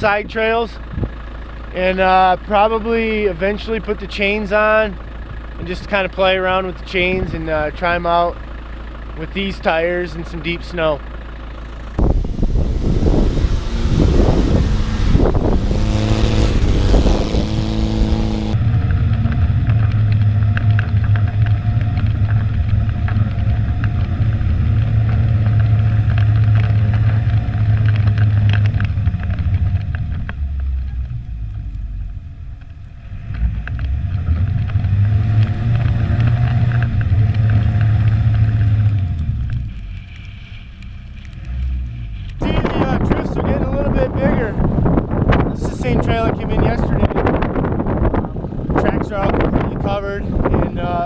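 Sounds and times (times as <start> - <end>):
car engine droning while driving: 0.0 - 43.8.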